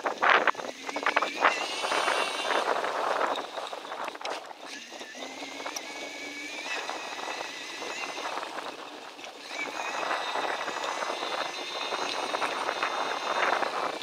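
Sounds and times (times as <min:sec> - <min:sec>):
bicycle rattling over bumps: 0:00.0 - 0:14.0
steady high whine: 0:00.0 - 0:14.0.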